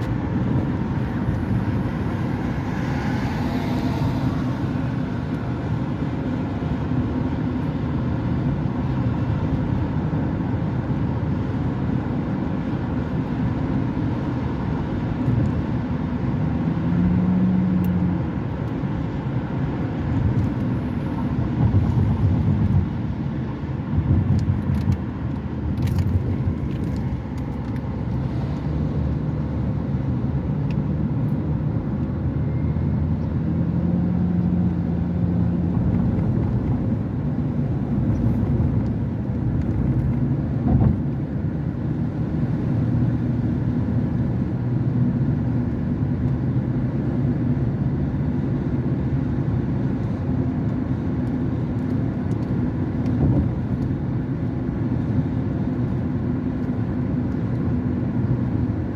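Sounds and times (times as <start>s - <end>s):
car driving on road: 0.0s - 58.9s.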